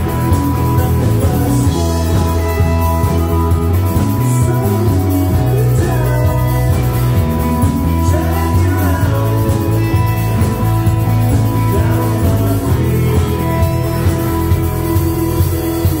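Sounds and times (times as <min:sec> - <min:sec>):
bass guitar: 0:00.0 - 0:16.0
drums: 0:00.0 - 0:16.0
electric guitar: 0:00.0 - 0:16.0
person singing: 0:00.0 - 0:16.0.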